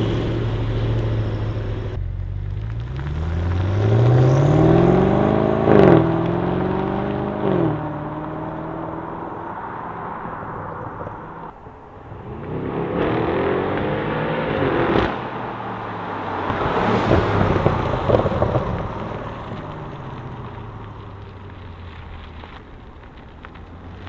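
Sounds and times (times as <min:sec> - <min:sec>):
car engine accelerating: 0:00.0 - 0:24.0
exhaust crackling pops: 0:00.0 - 0:24.0.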